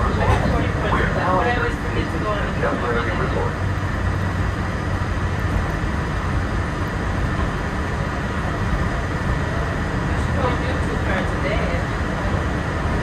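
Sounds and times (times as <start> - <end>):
monorail rumble: 0.0 - 13.0.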